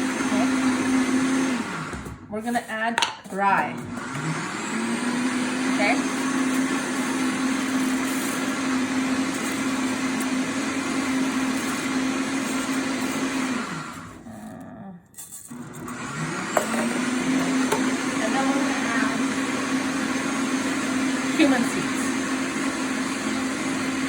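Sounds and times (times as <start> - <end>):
blender motor grinding paste: 0.0 - 24.0.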